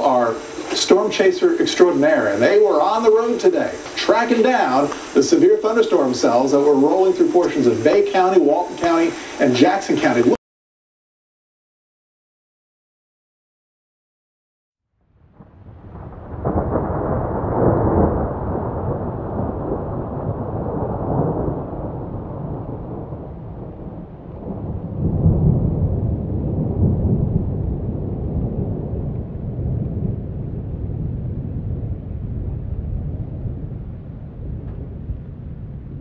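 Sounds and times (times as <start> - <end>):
rolling thunder: 0.0 - 9.2, 15.1 - 36.0.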